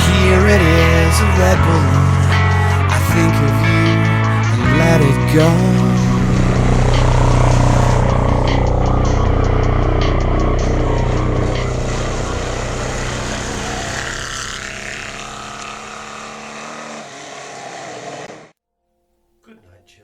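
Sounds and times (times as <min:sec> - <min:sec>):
race car engine running: 0:00.0 - 0:18.5.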